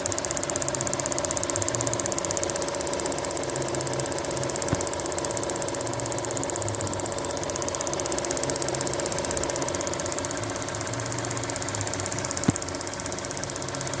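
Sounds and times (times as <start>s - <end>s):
sharp click: 0.0s - 6.6s, 7.3s - 13.9s
car engine idling: 0.0s - 14.0s
valve ticking rapidly: 0.0s - 14.0s.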